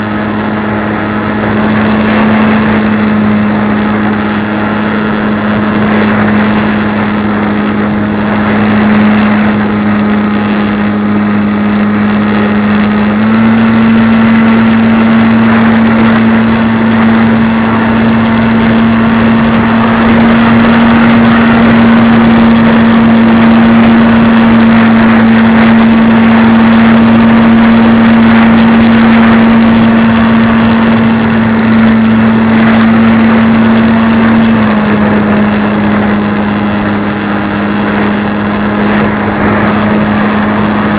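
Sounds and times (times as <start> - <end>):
model airplane motor running: 0.0 - 40.9.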